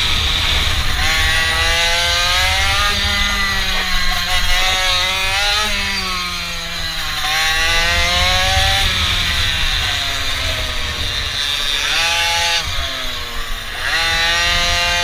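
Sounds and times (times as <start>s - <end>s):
small bike engine revving: 0.0s - 15.0s
wind rumbling on microphone: 0.0s - 15.0s.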